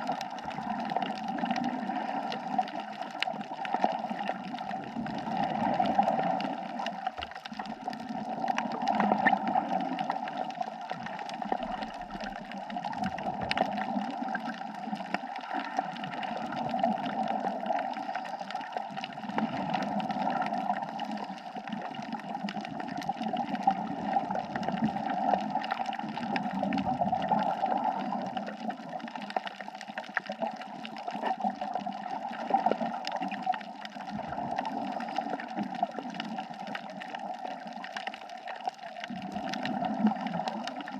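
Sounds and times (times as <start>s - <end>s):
underwater water noise: 0.0s - 40.9s.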